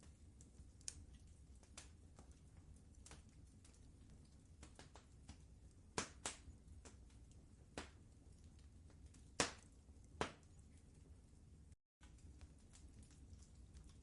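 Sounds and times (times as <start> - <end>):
faint low rumble: 0.0 - 14.0
wood fire crackling: 0.0 - 14.0.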